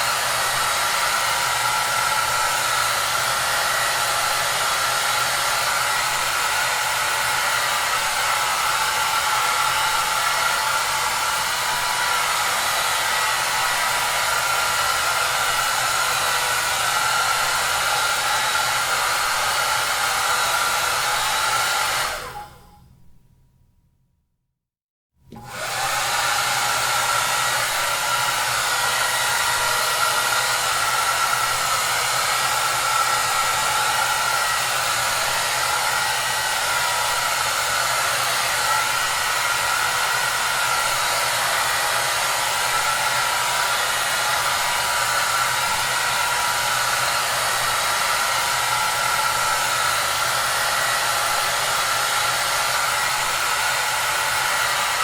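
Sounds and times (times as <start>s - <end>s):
hair dryer running: 0.0s - 22.8s, 25.3s - 55.0s.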